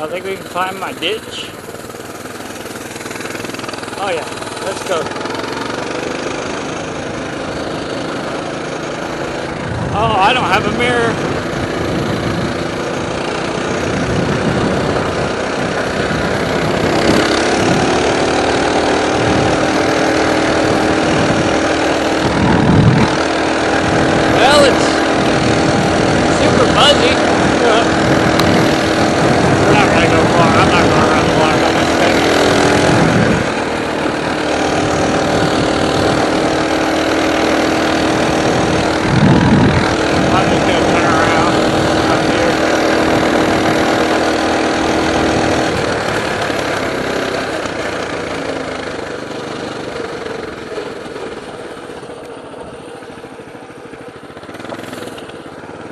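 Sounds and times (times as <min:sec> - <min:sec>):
mini bike engine revving: 0:00.0 - 0:55.9.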